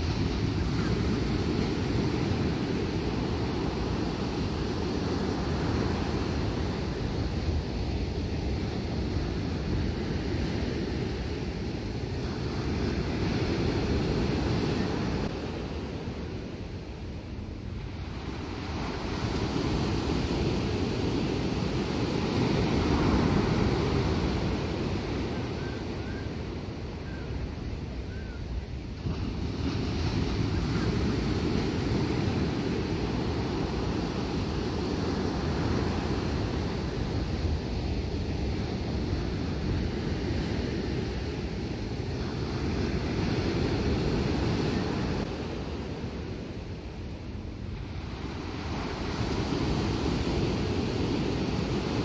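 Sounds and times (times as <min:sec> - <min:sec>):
ocean surf breaking on beach: 0:00.0 - 0:52.0
wind rumbling on microphone: 0:00.0 - 0:52.0.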